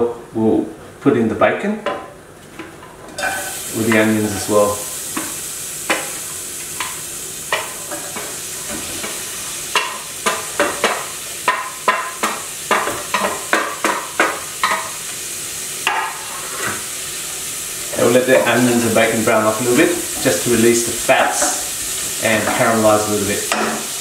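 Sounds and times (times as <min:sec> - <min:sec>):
bacon and onions sizzling in oil: 0:03.2 - 0:24.0.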